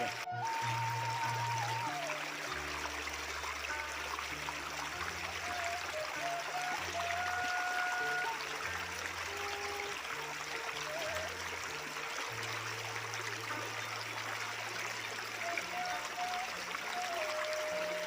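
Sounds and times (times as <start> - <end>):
river water flowing over stones: 0.0 - 18.0
soft background music: 0.0 - 18.0.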